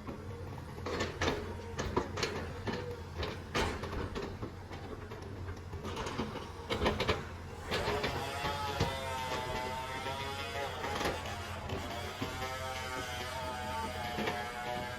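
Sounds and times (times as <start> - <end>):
heavy machinery droning: 0.0 - 14.9.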